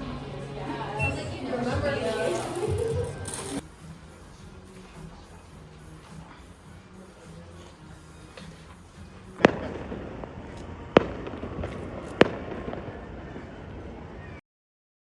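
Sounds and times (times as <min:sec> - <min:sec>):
background noise: 0:00.0 - 0:14.4.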